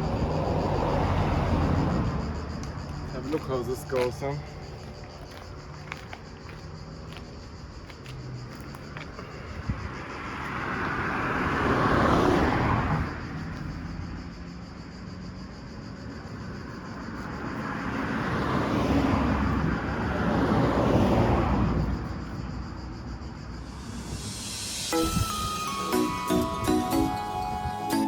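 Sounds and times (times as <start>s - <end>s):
vehicles passing by: 0.0s - 28.0s.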